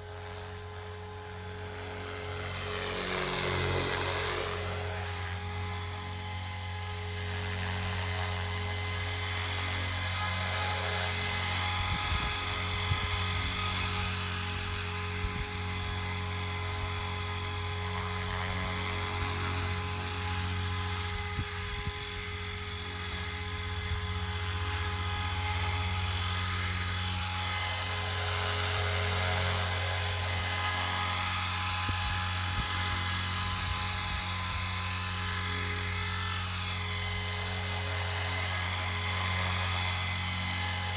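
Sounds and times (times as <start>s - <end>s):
high-pitched motor whine: 0.0s - 40.9s
rotor blades humming: 0.0s - 40.9s.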